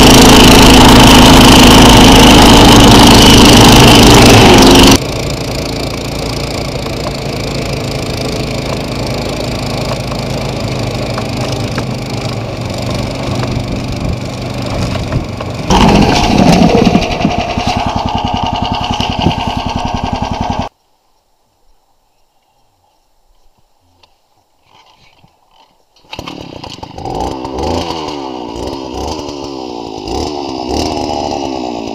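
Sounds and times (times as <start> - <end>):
small gas engine running: 0.0 - 20.7, 26.0 - 31.9.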